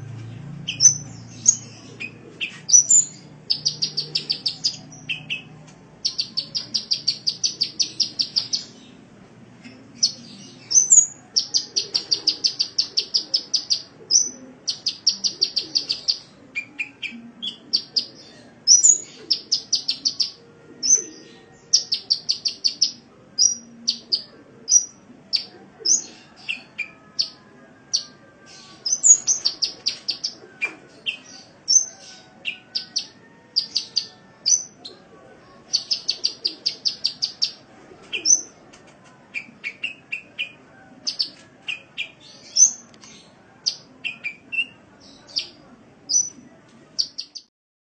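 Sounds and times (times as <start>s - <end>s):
bird trilling song: 0.1s - 9.0s, 9.6s - 34.9s, 35.7s - 38.6s, 39.3s - 46.4s, 47.0s - 47.5s.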